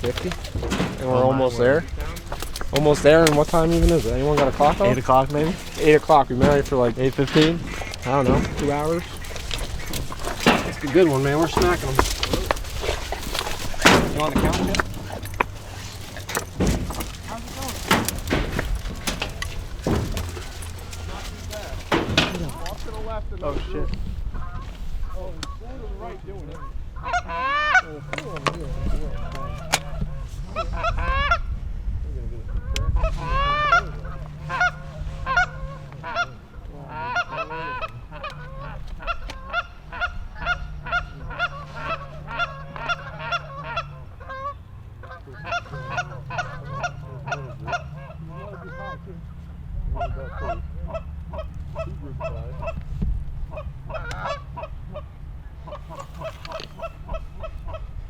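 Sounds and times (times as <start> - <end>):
geese honking and clucking: 0.0 - 31.6, 32.5 - 58.0.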